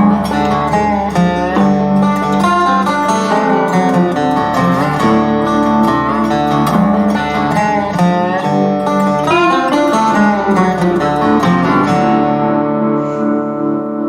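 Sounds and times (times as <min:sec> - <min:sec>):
plucked guitar music: 0:00.0 - 0:14.0.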